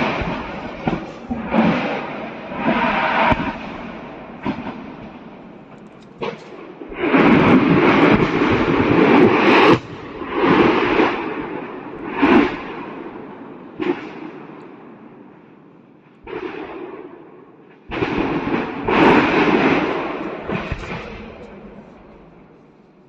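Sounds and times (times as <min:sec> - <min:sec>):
sharp cracks: 0:00.0 - 0:14.8, 0:16.0 - 0:23.0
explosions and rumbling blasts: 0:00.0 - 0:23.0.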